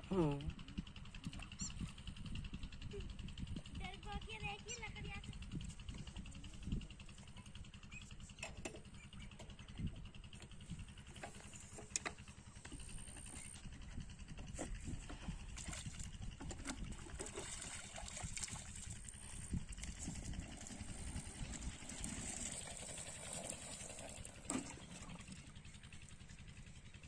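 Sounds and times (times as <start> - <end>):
diesel engine low thudding: 0.0 - 27.0.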